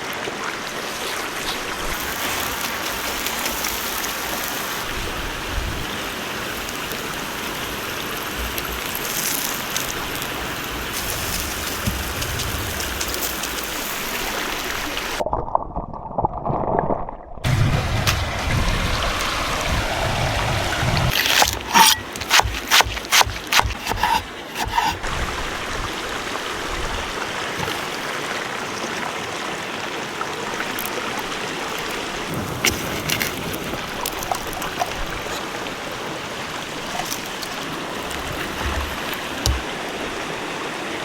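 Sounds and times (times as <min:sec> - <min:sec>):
flowing water rushing: 0:00.0 - 0:15.2, 0:17.4 - 0:41.0.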